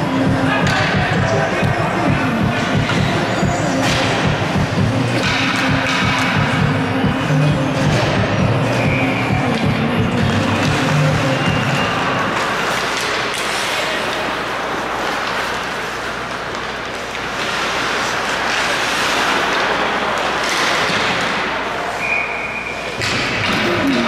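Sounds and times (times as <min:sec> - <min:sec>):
skates scraping ice: 0:00.0 - 0:24.0
hockey sticks and puck knocking: 0:00.2 - 0:22.1, 0:22.8 - 0:24.0.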